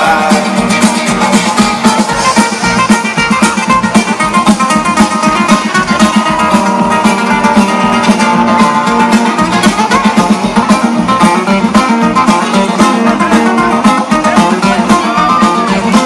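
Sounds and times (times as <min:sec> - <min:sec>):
fast drum beat: 0:00.0 - 0:16.0
guitar lines: 0:00.0 - 0:16.0.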